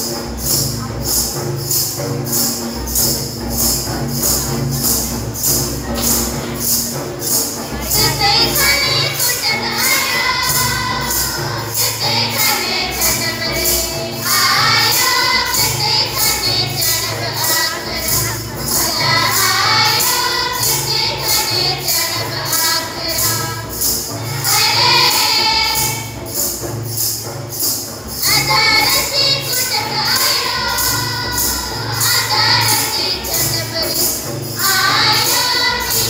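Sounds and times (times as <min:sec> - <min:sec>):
high percussion strokes: 0:00.0 - 0:36.0
music with steady beat: 0:00.0 - 0:36.0.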